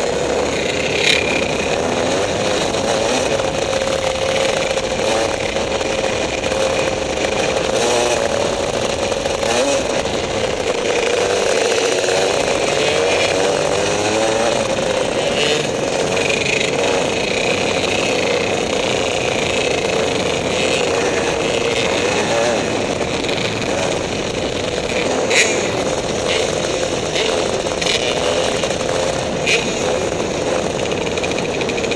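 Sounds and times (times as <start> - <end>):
kart engine racing: 0.0 - 31.9.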